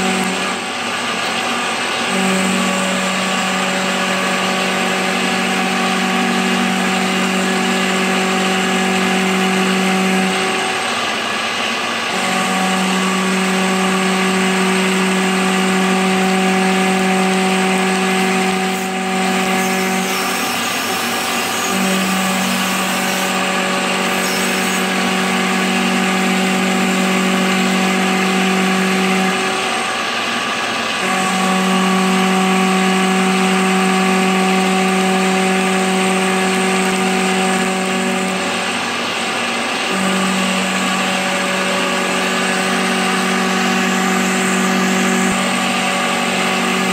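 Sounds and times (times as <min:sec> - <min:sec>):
milling machine cutting metal: 0:00.0 - 0:46.9.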